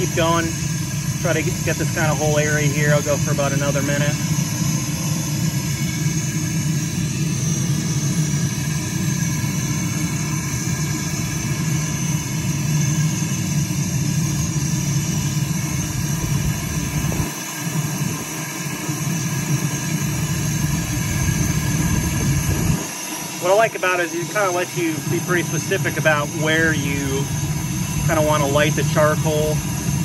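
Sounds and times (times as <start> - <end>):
propane torch flame roaring: 0.0 - 30.0.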